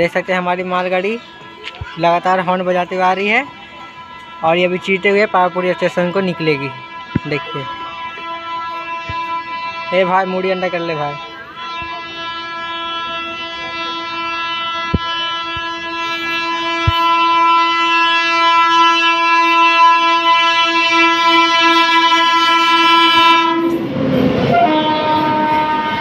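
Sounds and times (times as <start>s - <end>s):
train horn blast: 3.1s - 26.0s.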